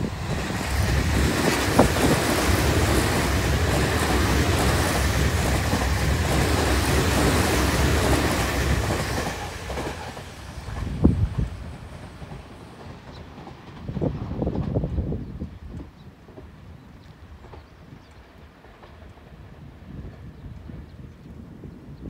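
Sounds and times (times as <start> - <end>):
rail clicks: 0.0 - 20.8
train wheels rumbling on rails: 0.0 - 22.0.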